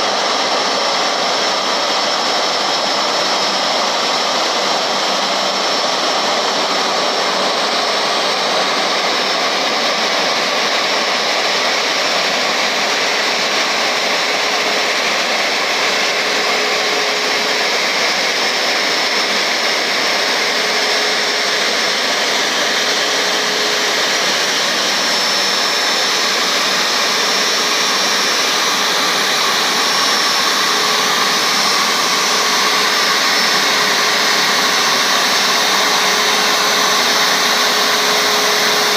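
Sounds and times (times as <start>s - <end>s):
jet engines idling with whine: 0.0s - 38.9s.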